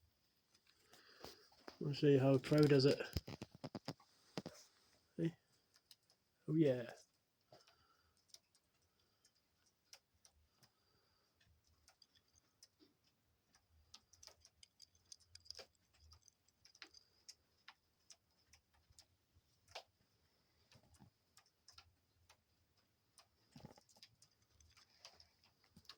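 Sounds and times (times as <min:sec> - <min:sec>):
faint small clicks and ticks: 0:00.0 - 0:25.9.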